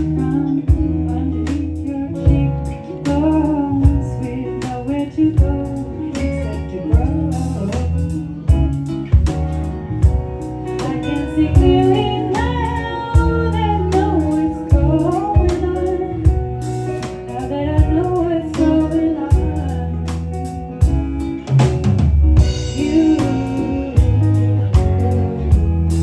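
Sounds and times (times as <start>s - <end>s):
person singing: 0.0s - 9.0s, 10.7s - 21.0s, 22.4s - 26.0s
bass line: 0.0s - 26.0s
drums: 0.0s - 26.0s
guitar: 0.0s - 26.0s.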